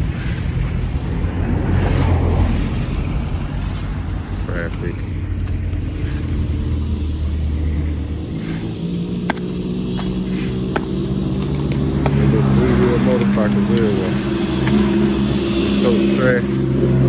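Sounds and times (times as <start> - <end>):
engine drone rising in pitch: 0.0 - 17.0
vehicle engines running: 0.0 - 17.0.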